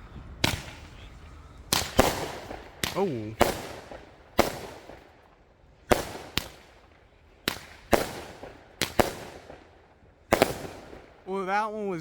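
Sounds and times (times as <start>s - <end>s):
firework bangs echoing: 0.4s - 11.5s.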